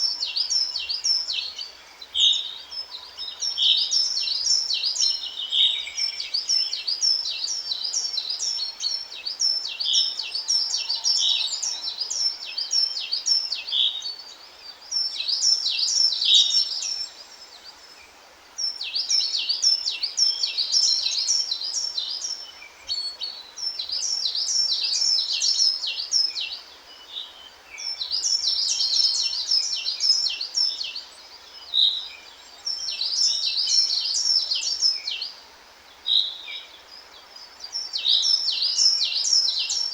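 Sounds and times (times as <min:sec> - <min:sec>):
birdsong: 0:00.0 - 0:39.9
faint steady hiss: 0:00.0 - 0:39.9.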